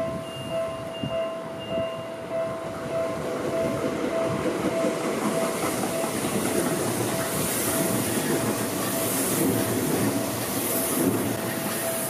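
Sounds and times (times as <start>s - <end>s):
level crossing warning bell: 0.0s - 12.0s
train passing on rails: 0.0s - 12.0s.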